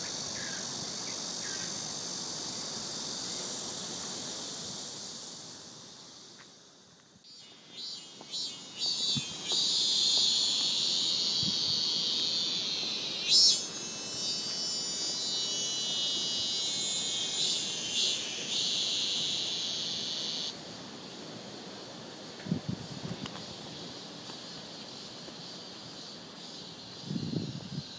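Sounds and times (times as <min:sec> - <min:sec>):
high-pitched insects buzzing: 0:00.0 - 0:27.9.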